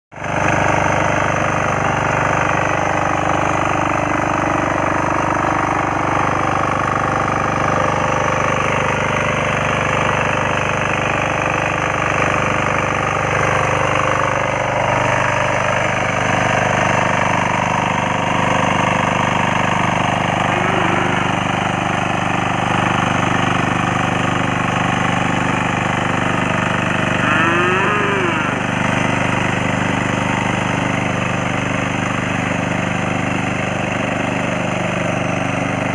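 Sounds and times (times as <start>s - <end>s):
small engine running under load: 0.2s - 35.9s.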